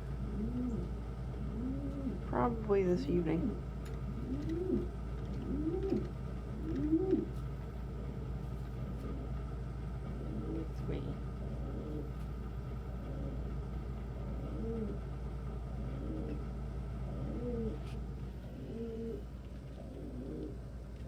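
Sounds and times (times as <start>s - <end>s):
pigeons cooing: 0.0s - 2.8s, 3.4s - 21.0s
steady low hum: 0.0s - 21.0s.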